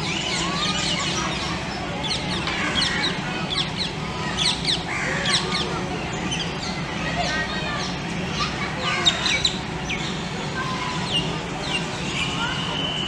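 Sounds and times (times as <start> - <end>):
low background hum: 0.0 - 13.0
small birds chirping: 0.0 - 13.0.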